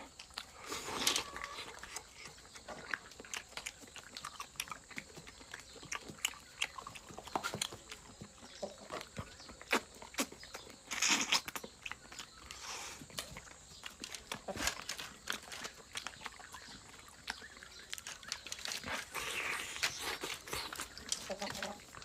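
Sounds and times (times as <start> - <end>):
person chewing chicken: 0.0 - 22.0.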